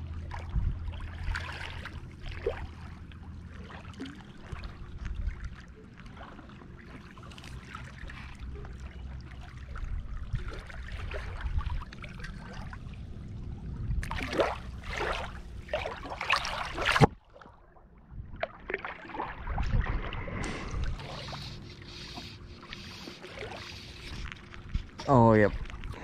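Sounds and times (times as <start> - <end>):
low rumble: 0.0 - 7.0, 7.9 - 22.0
small waves lapping on shore: 0.0 - 13.2, 14.0 - 17.7, 18.4 - 26.0
water splashing in shallows: 0.0 - 26.0.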